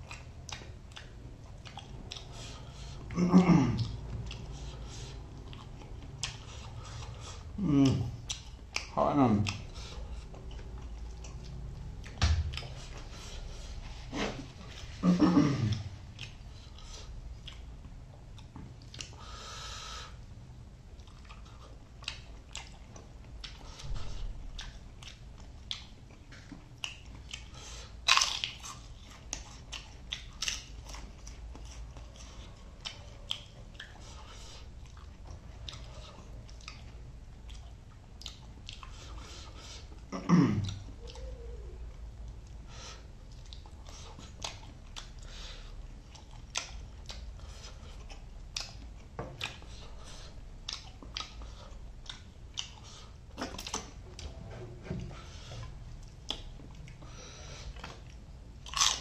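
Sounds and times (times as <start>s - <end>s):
person chewing and crunching: 0.0s - 20.2s, 20.8s - 59.0s.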